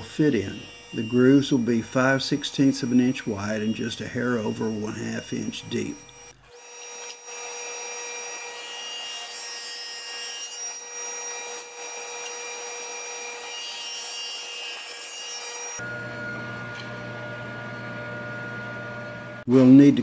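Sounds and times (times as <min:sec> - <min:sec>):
table saw cutting wood: 0:00.0 - 0:19.5.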